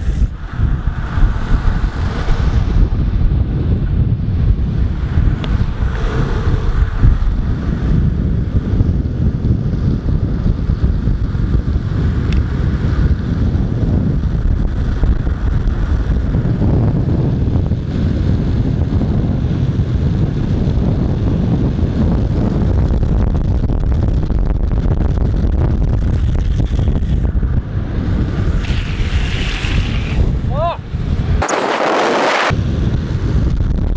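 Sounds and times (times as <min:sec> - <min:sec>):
longboard wheels rolling on asphalt: 0:00.0 - 0:33.9
wind buffeting microphone: 0:00.0 - 0:33.9.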